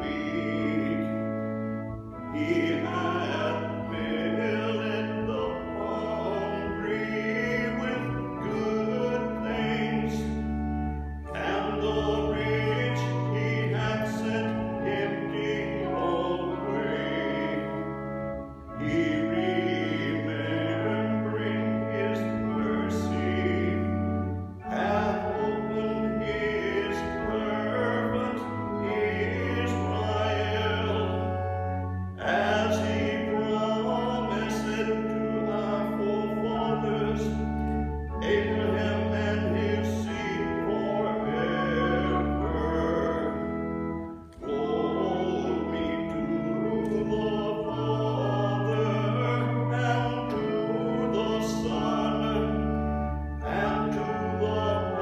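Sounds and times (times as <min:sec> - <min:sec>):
organ chords: 0:00.0 - 0:55.0
voices singing a hymn: 0:00.0 - 0:55.0.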